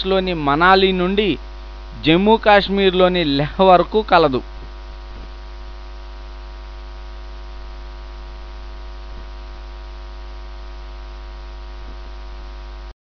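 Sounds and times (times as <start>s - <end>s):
electrical mains hum: 0.0s - 12.9s.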